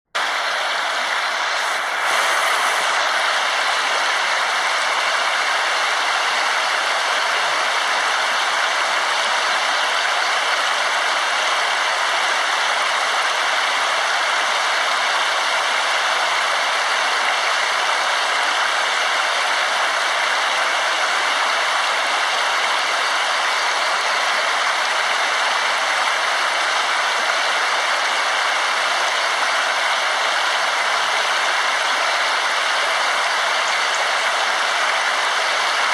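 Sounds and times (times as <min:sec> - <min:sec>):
waterfall rushing: 0:00.2 - 0:35.9.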